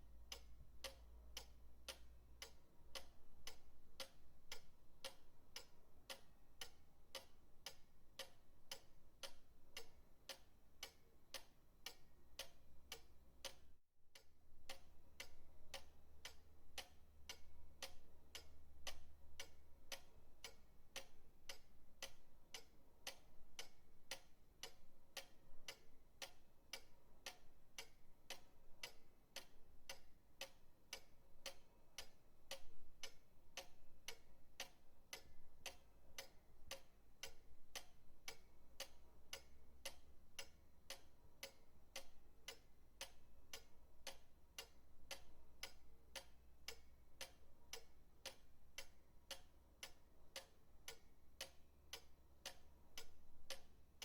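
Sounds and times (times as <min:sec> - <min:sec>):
pendulum clock ticking: 0:00.0 - 0:54.0.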